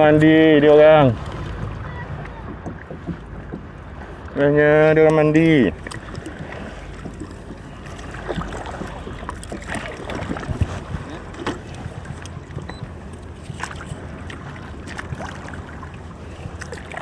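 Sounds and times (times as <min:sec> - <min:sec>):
water lapping around kayak: 0:00.0 - 0:17.0
small knocks against hull: 0:01.3 - 0:04.4, 0:05.0 - 0:15.6.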